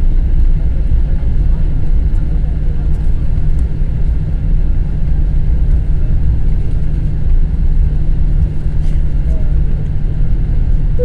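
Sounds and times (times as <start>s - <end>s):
aircraft engines rumbling in cabin: 0.0s - 11.0s.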